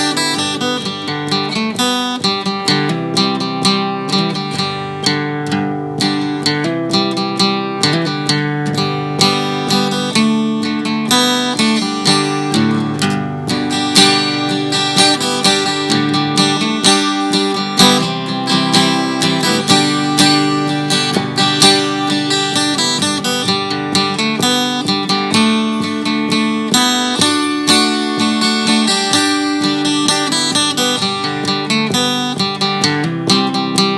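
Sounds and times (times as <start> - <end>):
acoustic guitar strumming chords: 0.0 - 33.9.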